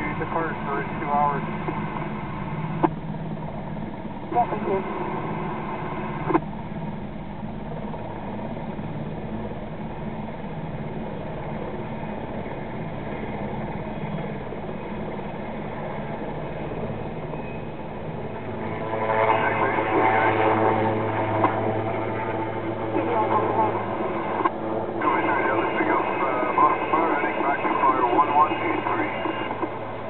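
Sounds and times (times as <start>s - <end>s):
low engine drone: 0.0s - 30.0s.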